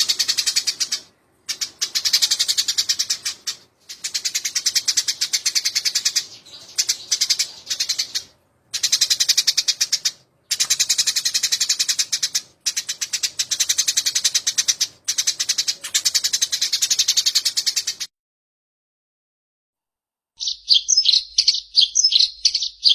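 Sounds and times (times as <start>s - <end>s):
sparrows chirping harshly: 0.0s - 18.1s, 20.4s - 22.9s.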